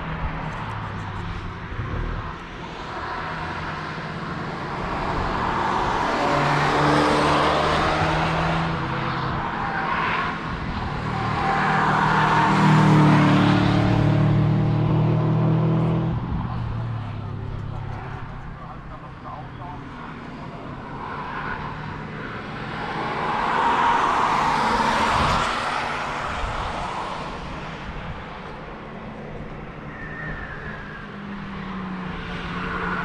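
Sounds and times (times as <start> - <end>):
race cars passing: 0.0 - 33.0.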